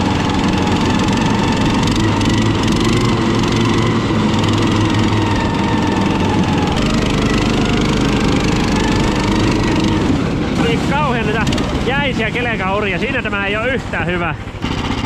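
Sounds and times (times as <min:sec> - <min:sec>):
four-stroke engine running: 0:00.0 - 0:15.0.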